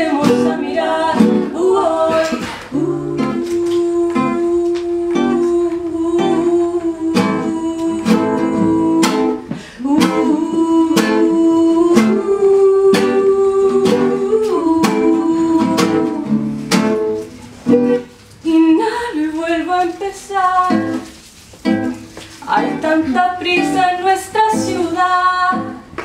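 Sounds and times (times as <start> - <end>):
strummed acoustic guitar: 0.0 - 18.2, 19.7 - 25.9.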